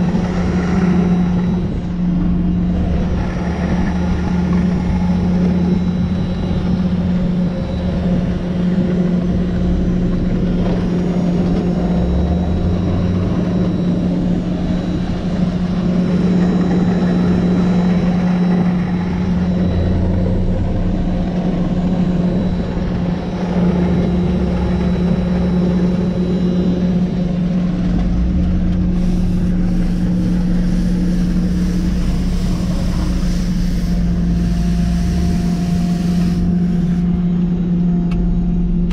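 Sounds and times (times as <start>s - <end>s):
street sweeper steady drone: 0.0s - 38.9s
truck engine rumble: 0.0s - 38.9s.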